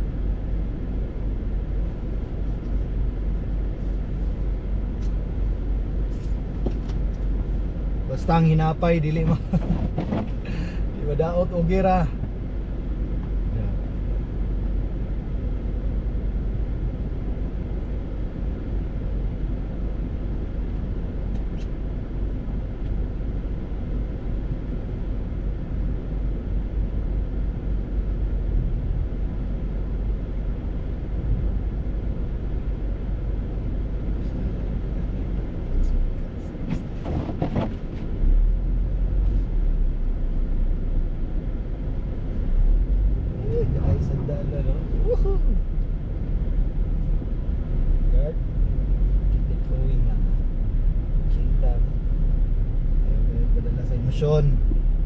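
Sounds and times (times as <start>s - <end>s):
vehicle driving road noise: 0.0s - 55.0s.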